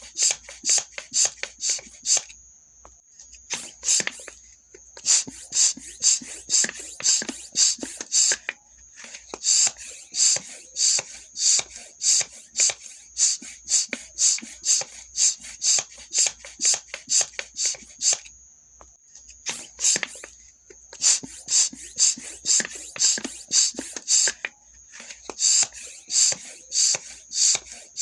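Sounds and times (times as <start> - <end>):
hand bicycle pump strokes: 0.0 - 2.2, 3.5 - 4.4, 5.0 - 18.2, 19.5 - 20.3, 20.9 - 28.0.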